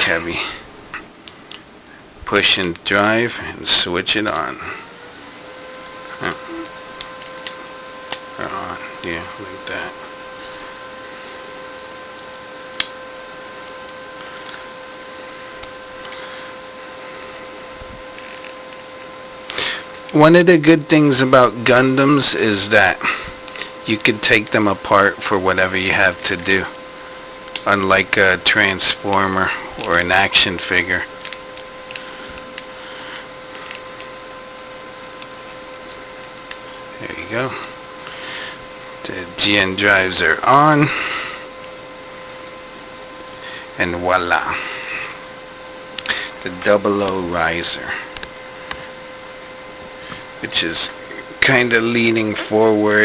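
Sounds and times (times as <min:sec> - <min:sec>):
faint constant whine: 0:00.0 - 0:53.0
faint steady hum: 0:00.0 - 0:53.0
steady background hiss: 0:00.0 - 0:53.0.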